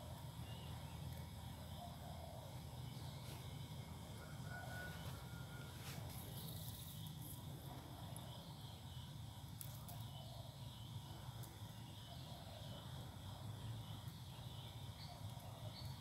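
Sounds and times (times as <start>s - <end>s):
high insect-like drone: 0.0s - 16.0s
outdoor background hum: 0.0s - 16.0s.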